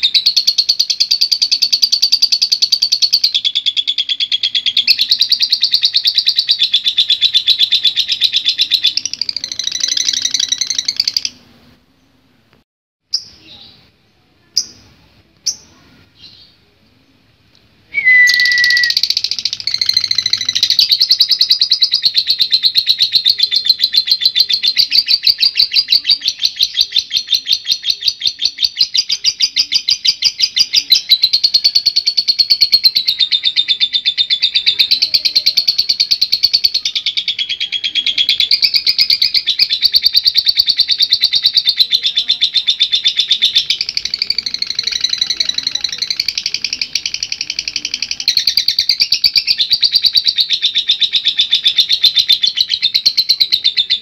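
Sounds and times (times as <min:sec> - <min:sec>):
bird chirps: 0:00.0 - 0:11.4, 0:18.0 - 0:54.0
high chattering bird trill: 0:00.0 - 0:11.5, 0:18.0 - 0:54.0.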